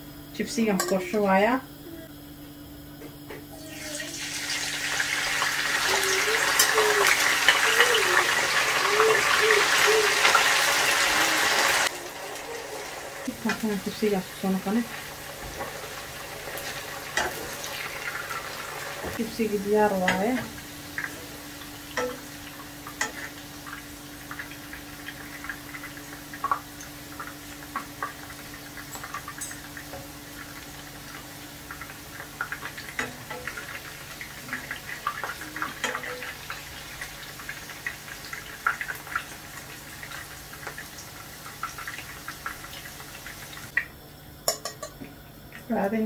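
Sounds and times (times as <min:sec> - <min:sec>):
hot oil crackling in a pan: 0:03.6 - 0:46.0.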